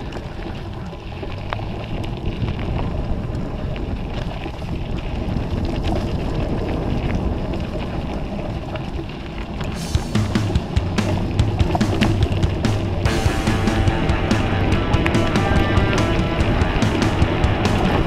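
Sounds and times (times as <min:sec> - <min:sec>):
low sled rumble: 0:00.0 - 0:18.0
wind buffeting microphone: 0:00.0 - 0:18.0.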